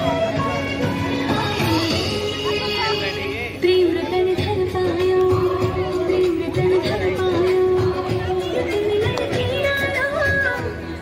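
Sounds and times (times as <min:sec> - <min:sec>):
loud music with singing: 0:00.0 - 0:11.0.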